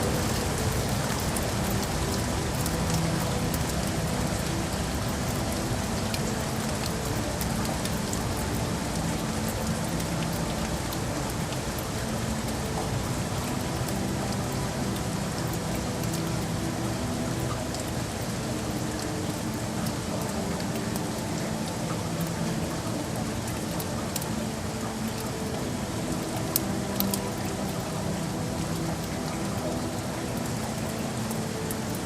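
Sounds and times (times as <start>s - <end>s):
rain on hard surfaces: 0.0s - 32.0s.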